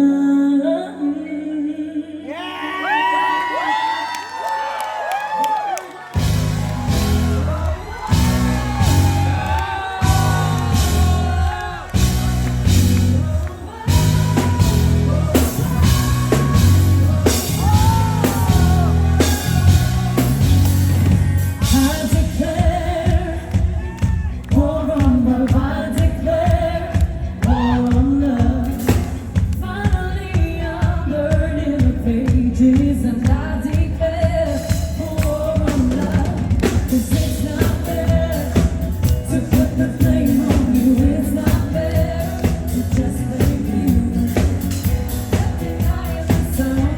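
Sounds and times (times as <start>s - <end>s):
female singer: 0.0s - 4.0s, 7.2s - 46.9s
full band playing pop: 5.8s - 46.9s
heavy bass: 6.2s - 33.0s, 34.0s - 46.9s
steady drum beat: 6.2s - 46.9s.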